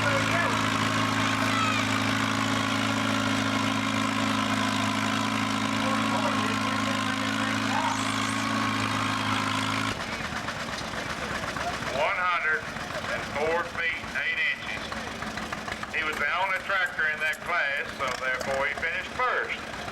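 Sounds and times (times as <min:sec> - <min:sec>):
tractor engine running: 0:00.0 - 0:19.9.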